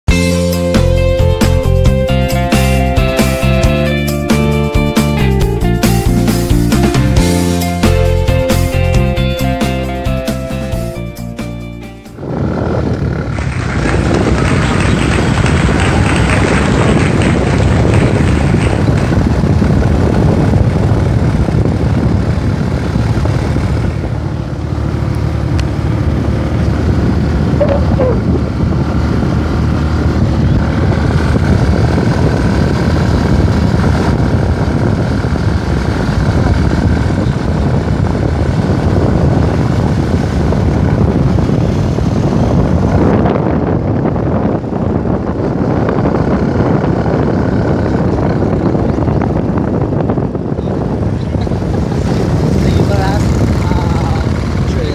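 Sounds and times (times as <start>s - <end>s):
road and wind noise: 0.0s - 54.9s
motorcycle engine running: 0.1s - 54.9s.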